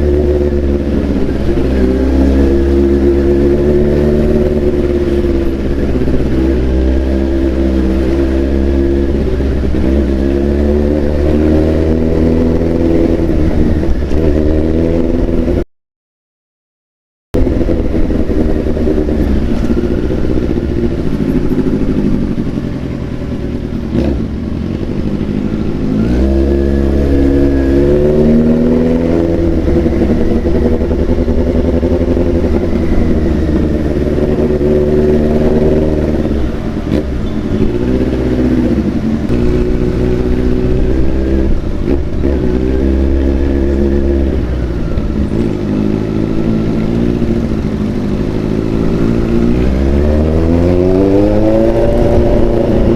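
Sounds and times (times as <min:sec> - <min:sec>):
motorcycle engine revving: 0:00.0 - 0:15.6, 0:17.4 - 0:52.9.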